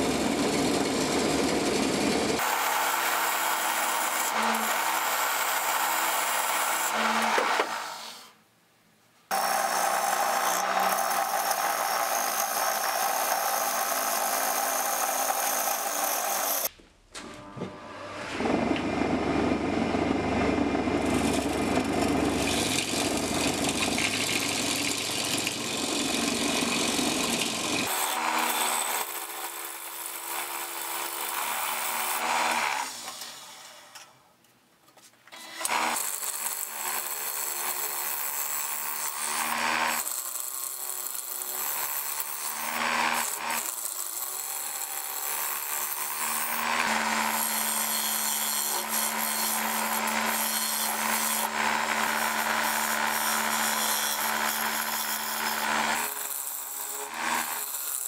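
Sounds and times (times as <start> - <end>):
turning tool cutting wood: 0.0 - 8.3, 9.3 - 16.7, 18.3 - 33.9, 35.3 - 58.0
wood lathe hum: 0.0 - 8.3, 9.3 - 16.7, 17.8 - 33.9, 35.4 - 38.5, 39.2 - 58.0.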